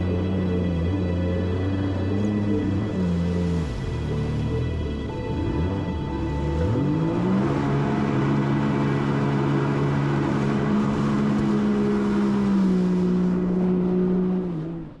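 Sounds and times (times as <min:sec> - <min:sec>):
personal watercraft engine running: 0:00.0 - 0:15.0
water rushing and spraying: 0:00.0 - 0:15.0.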